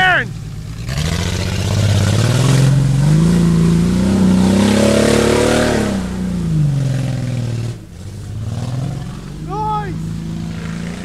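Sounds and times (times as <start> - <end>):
engine revving: 0.0 - 11.0
spinning tyres throwing mud: 0.0 - 11.0.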